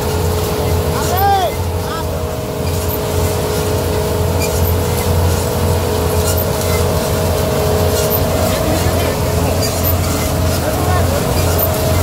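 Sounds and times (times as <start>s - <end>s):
constant machine whine: 0.0s - 12.0s
harvester engine hum: 0.0s - 12.0s.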